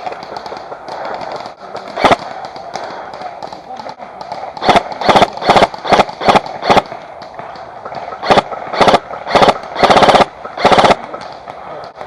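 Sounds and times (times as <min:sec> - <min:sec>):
airsoft gun full-auto bursts: 0:00.0 - 0:07.3, 0:08.1 - 0:11.1.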